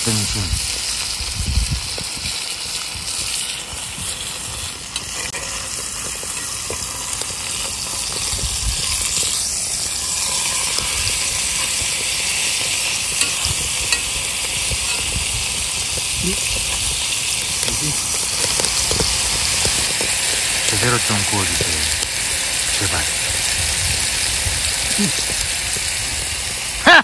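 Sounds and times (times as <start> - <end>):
steak sizzling in skillet: 0.0 - 27.0.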